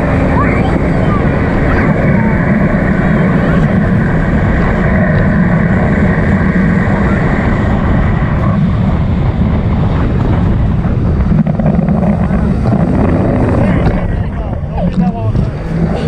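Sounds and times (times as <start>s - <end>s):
jet ski engine rumble: 0.0s - 16.0s
wind noise on microphone: 0.0s - 16.0s.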